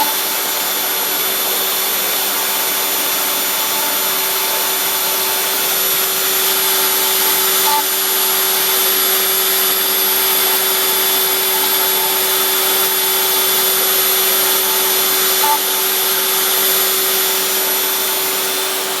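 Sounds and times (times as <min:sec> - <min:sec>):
high-speed motor whine: 0:00.0 - 0:19.0.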